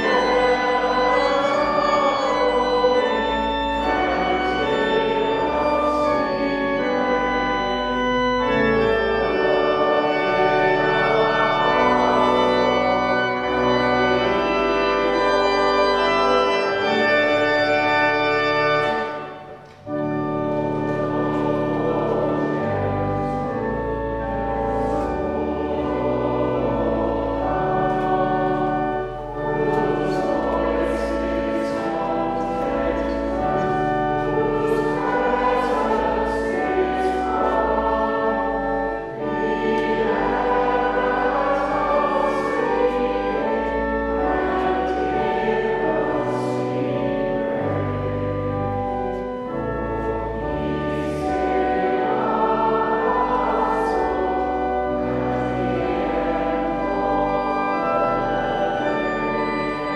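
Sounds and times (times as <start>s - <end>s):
organ accompaniment: 0.0s - 59.9s
voices singing a hymn: 0.0s - 59.9s.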